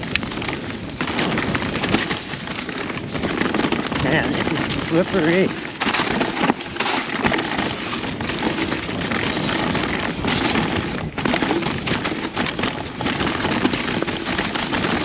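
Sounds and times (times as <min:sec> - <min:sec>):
bike rattling over rocks: 0:00.0 - 0:15.0
wind on microphone: 0:00.0 - 0:15.0.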